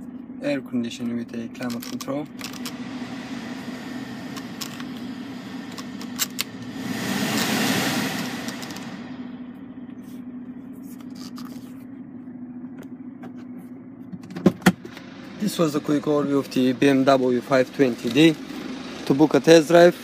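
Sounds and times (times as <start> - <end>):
steady hum: 0.0 - 19.7
car blower fan rushing: 0.0 - 20.0.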